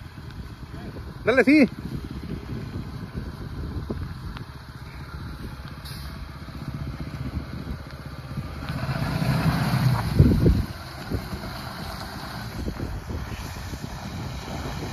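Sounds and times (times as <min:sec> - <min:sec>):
pickup truck diesel engine rumble: 0:00.0 - 0:14.9.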